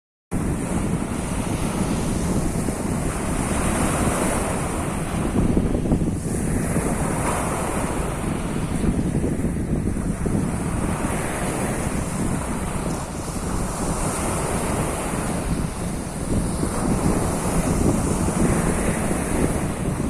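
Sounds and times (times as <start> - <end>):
wind buffeting microphone: 0.3 - 20.0
sea surf washing onto shore: 0.4 - 20.0.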